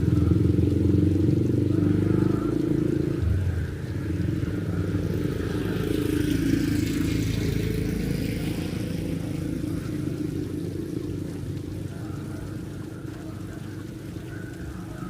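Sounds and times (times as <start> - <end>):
heavy rain hissing: 0.0 - 15.0
vehicle engine running: 0.0 - 15.0.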